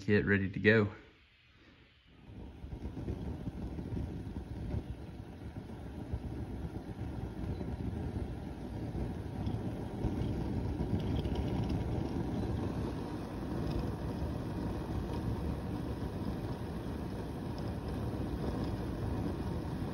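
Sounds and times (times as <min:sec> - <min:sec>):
stove flames rushing: 0:00.0 - 0:19.9.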